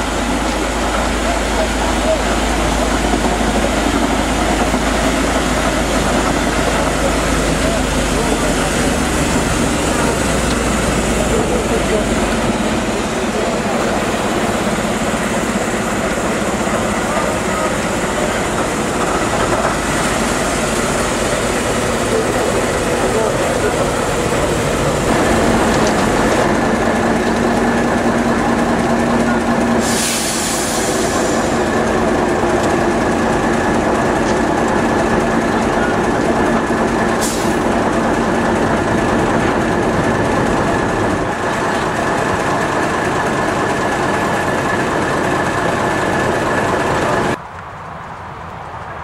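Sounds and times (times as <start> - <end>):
train rumbling on track: 0.0 - 49.0.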